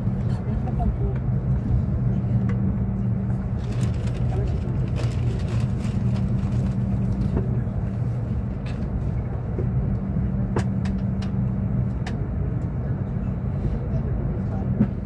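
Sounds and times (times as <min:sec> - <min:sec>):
train interior hum: 0:00.0 - 0:15.0
train wheel rumble: 0:00.0 - 0:15.0.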